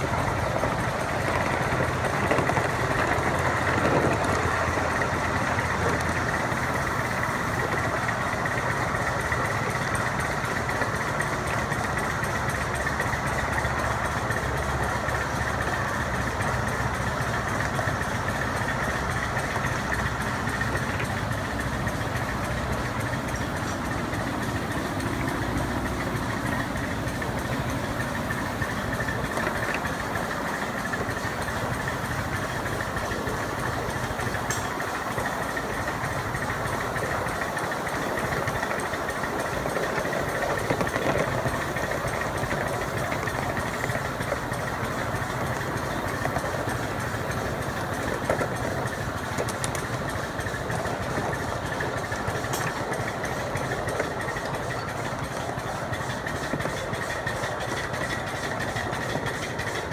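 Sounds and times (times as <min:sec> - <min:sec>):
cars rumbling on rails: 0:00.0 - 0:59.9
miniature train engine droning: 0:00.0 - 0:59.9.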